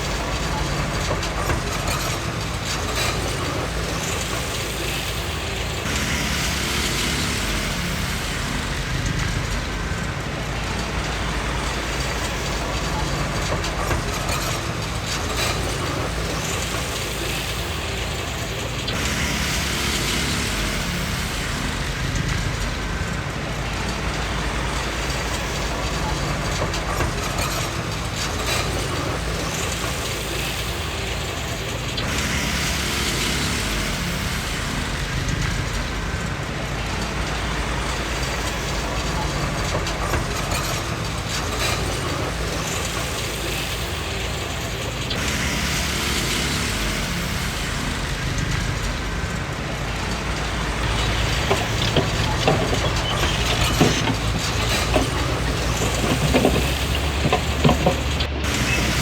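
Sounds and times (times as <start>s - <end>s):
diesel engine rumble: 0.0s - 59.0s
steel tracks clanking: 0.0s - 59.0s.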